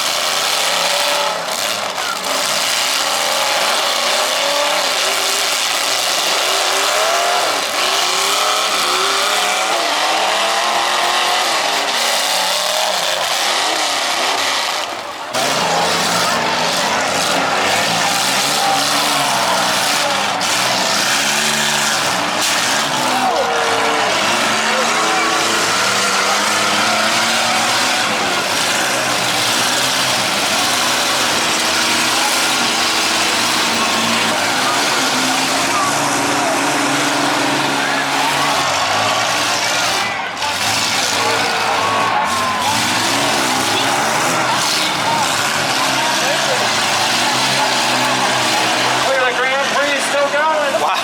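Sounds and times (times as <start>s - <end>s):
combine harvester engines revving: 0.0s - 51.0s.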